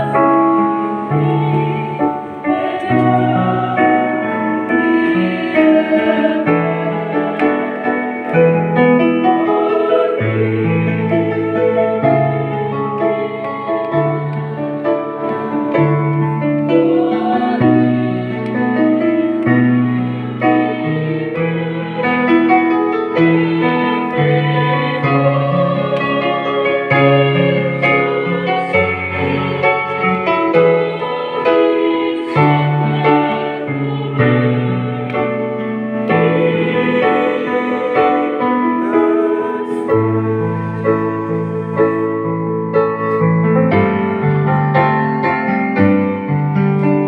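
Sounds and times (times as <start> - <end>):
choir singing: 0.0 - 44.3.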